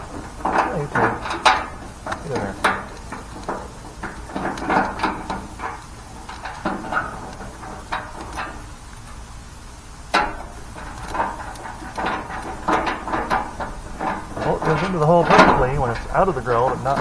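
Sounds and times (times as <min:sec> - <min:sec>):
metal parts clicking and scraping: 0:00.0 - 0:09.2, 0:10.0 - 0:17.0.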